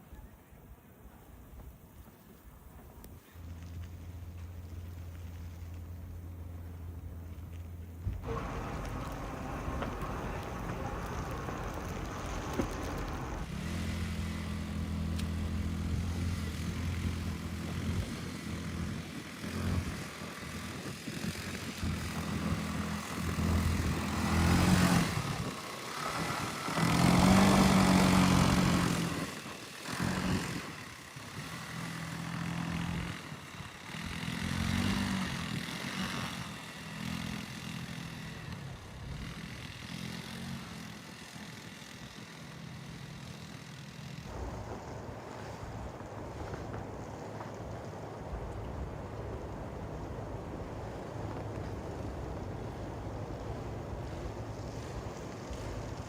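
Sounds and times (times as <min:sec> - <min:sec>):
vehicle engine droning: 0:02.7 - 0:56.0.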